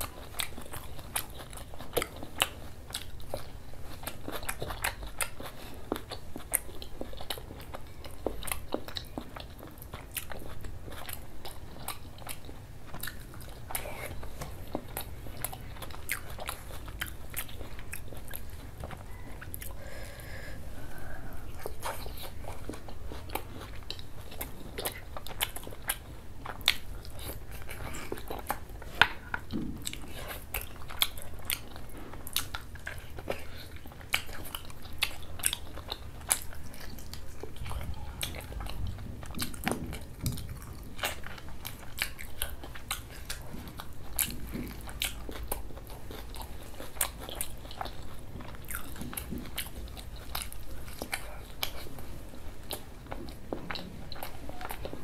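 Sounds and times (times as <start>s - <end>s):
man chewing food: 0.0s - 55.0s.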